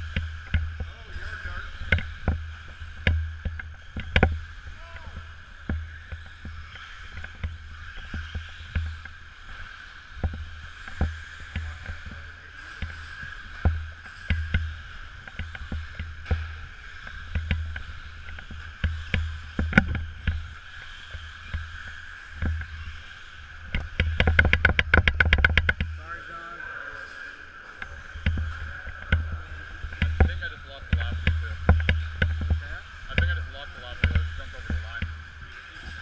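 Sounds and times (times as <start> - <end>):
sharp knocks and clicks: 0.0 - 26.0, 27.8 - 36.0
rc cars whining: 0.0 - 36.0.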